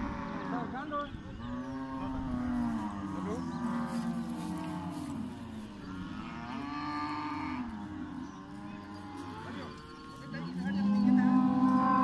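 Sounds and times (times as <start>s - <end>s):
bull bellowing: 1.5s - 12.0s.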